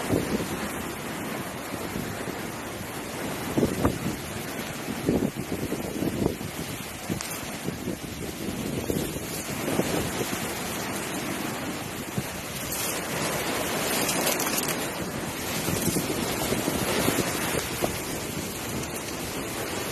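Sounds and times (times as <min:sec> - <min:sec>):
sea washing along a hull: 0:00.0 - 0:19.9
wind gusting on microphone: 0:00.0 - 0:19.9.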